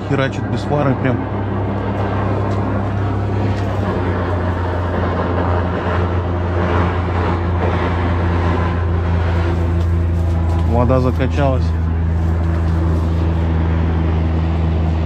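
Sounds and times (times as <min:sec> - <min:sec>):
airboat engine drone: 0:00.0 - 0:15.0.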